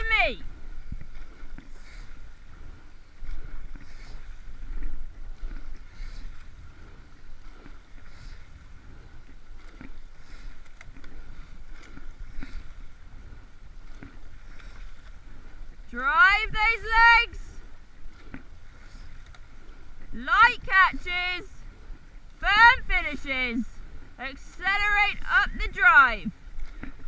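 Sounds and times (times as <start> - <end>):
water and wind rumble: 0.0 - 27.0.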